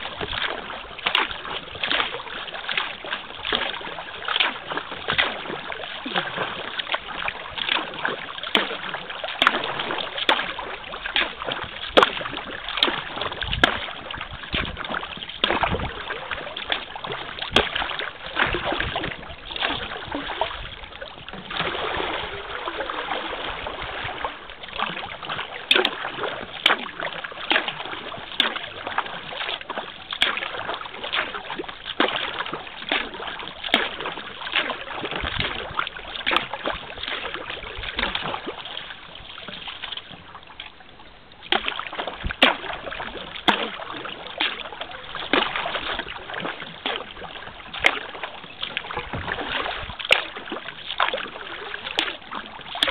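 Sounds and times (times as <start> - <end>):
paddle dipping into water: 0.0 - 52.9
water dripping off paddle: 0.0 - 52.9.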